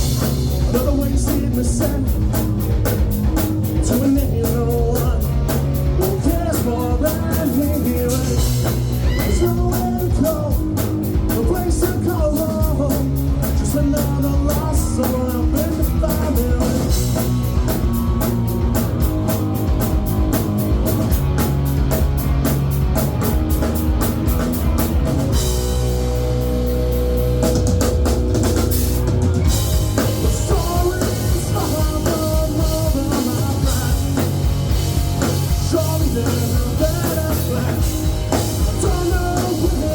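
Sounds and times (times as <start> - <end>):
rock song with lead vocal: 0.0 - 39.9.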